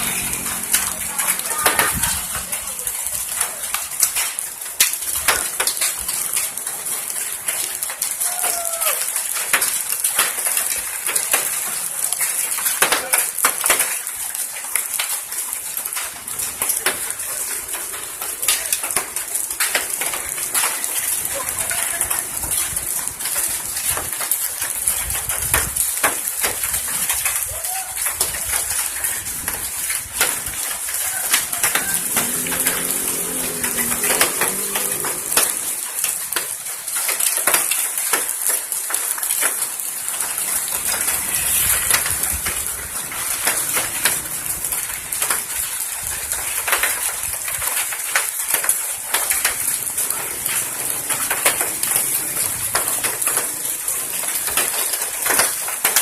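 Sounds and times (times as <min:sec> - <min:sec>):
hailstones striking hard surfaces: 0:00.0 - 0:56.0
rain hiss: 0:00.0 - 0:56.0.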